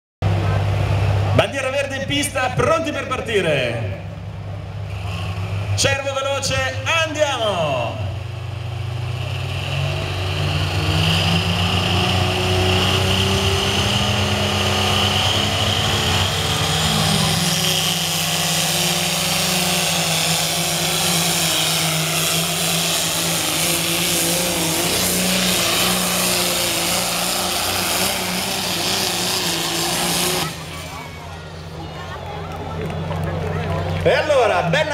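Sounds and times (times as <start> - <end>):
tractor diesel engine at full throttle: 0.2 - 34.9.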